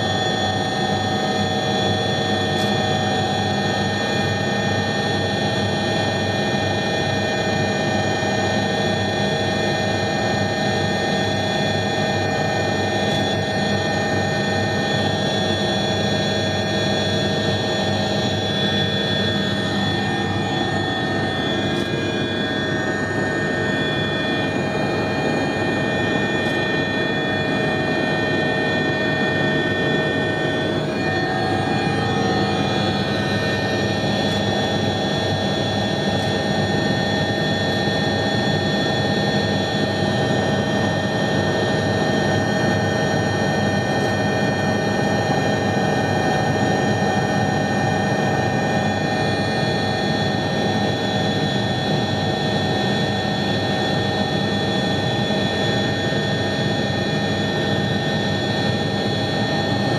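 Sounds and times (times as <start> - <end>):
helicopter turbine whine: 0.0 - 59.9
rotor and engine drone: 0.0 - 59.9.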